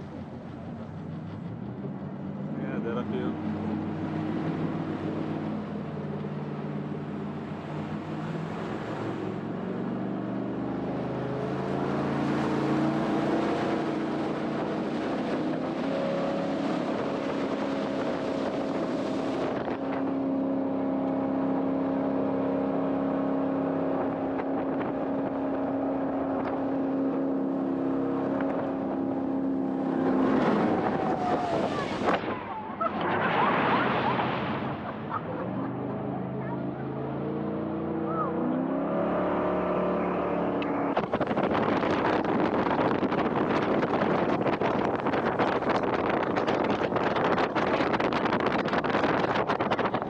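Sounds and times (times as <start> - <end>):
jet boat engine running: 0.0 - 50.0.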